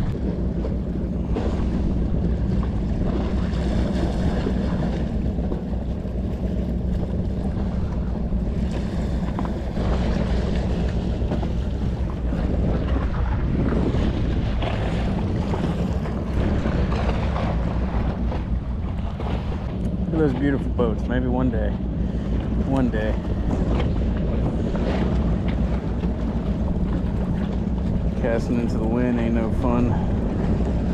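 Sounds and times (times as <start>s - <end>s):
waves washing against rocks: 0.0s - 30.9s
wind buffeting microphone: 0.0s - 30.9s.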